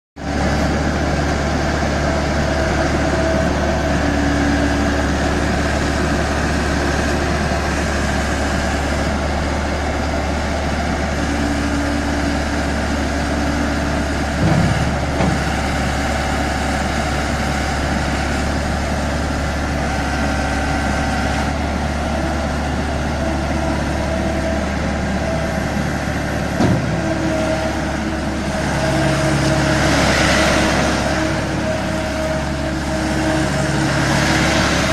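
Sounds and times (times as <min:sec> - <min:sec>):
loader engine running: 0:00.2 - 0:34.9.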